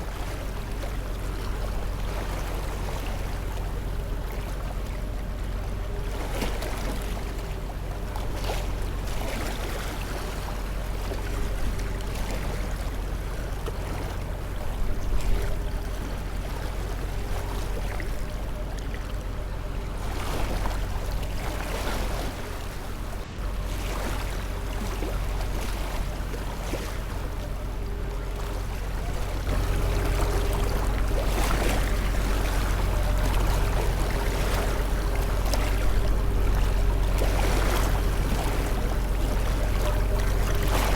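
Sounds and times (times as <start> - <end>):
deep steady rumble: 0.0 - 40.9
faint hum: 0.0 - 40.9
rushing water: 0.0 - 40.9.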